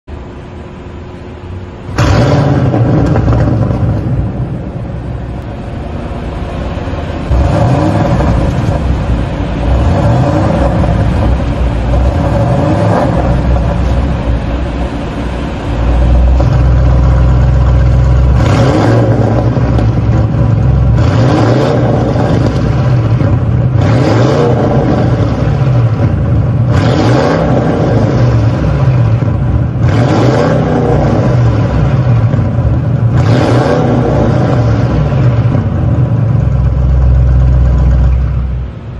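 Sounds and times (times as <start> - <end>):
car engine revving: 0.1 - 38.9.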